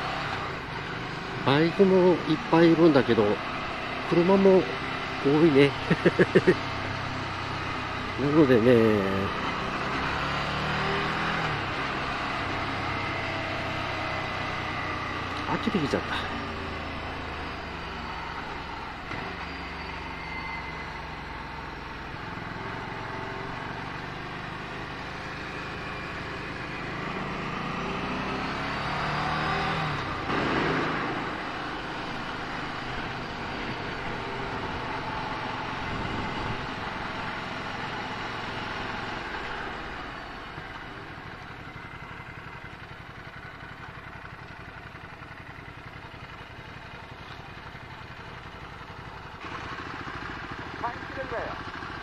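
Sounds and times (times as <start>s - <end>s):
motorcycle engine running: 0.0s - 52.0s
road and wind noise: 0.0s - 52.0s.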